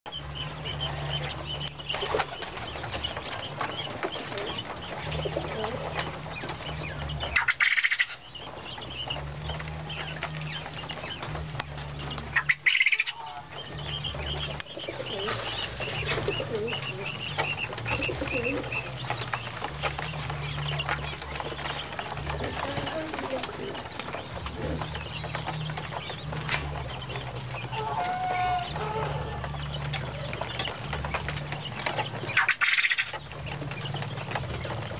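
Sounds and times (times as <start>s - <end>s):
low steady hum: 0.1s - 34.9s
quail peeping: 0.1s - 34.9s
wings flapping: 0.4s - 34.9s.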